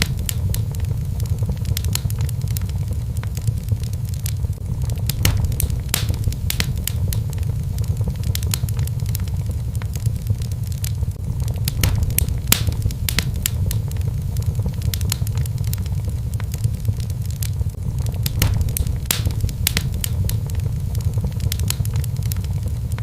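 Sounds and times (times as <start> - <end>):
fire flames rumbling: 0.0 - 23.0
logs popping and snapping: 0.0 - 23.0.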